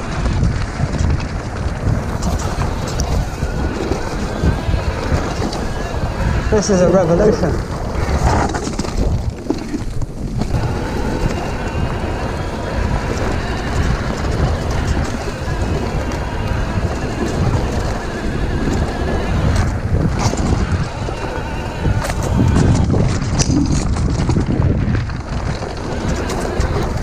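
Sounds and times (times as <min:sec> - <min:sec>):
bike tyres and frame rattling: 0:00.0 - 0:27.0
wind buffeting the microphone: 0:00.0 - 0:27.0.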